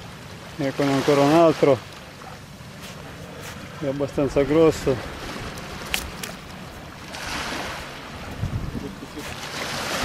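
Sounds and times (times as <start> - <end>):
sea surf washing up beach: 0.0 - 10.0.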